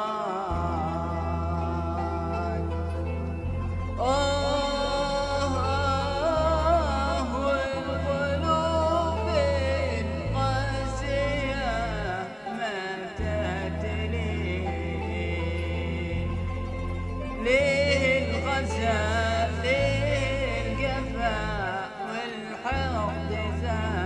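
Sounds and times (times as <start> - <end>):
man singing ornamented melody: 0.0 - 24.0.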